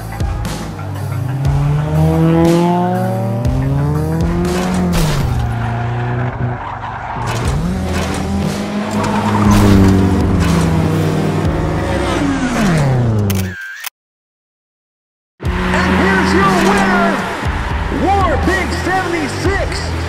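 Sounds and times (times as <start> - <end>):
race car engine revving: 0.0 - 13.3, 15.4 - 20.0.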